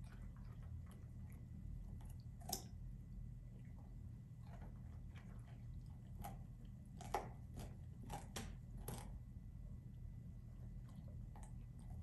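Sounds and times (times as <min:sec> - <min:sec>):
puppy crunching carrot: 0:00.0 - 0:09.4, 0:10.6 - 0:12.0.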